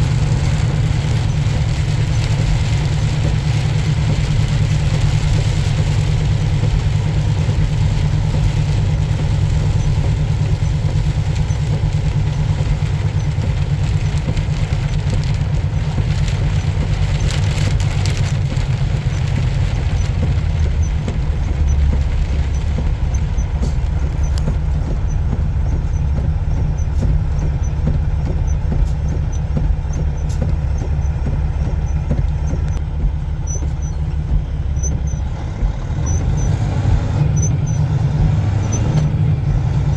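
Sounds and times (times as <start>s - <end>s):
road noise hiss: 0.0s - 39.9s
truck engine droning: 0.0s - 39.9s.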